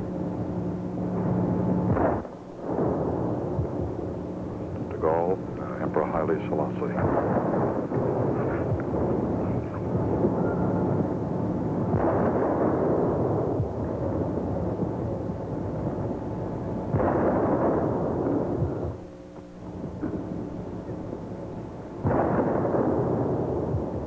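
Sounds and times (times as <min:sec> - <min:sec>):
distant cannon booms: 0:00.0 - 0:24.0
echoing rumble: 0:00.0 - 0:24.0.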